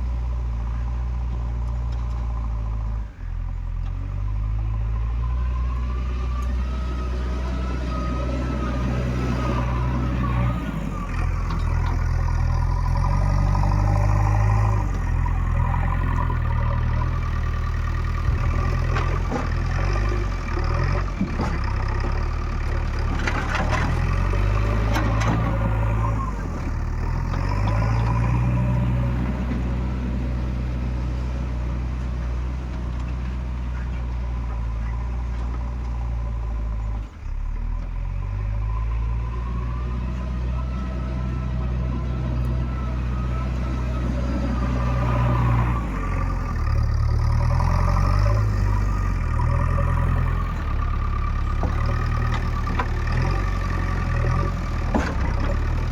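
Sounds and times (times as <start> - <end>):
diesel engine revving under load: 0.0 - 55.9.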